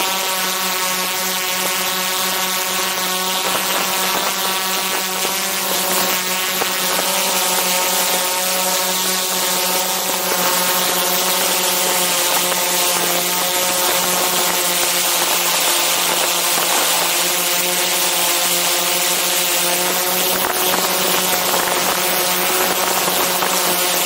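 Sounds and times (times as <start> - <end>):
drone motors buzzing whine: 0.0 - 24.0.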